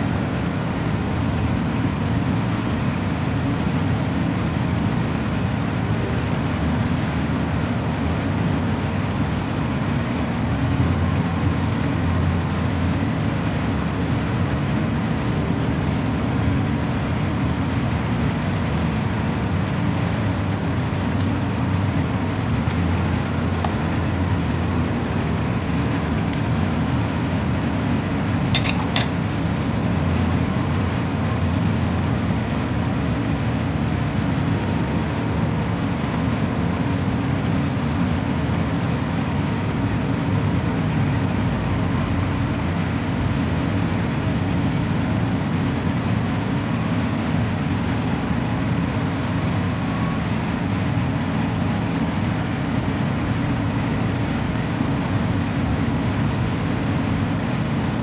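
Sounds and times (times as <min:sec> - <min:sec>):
low mechanical rumble: 0:00.0 - 0:58.0.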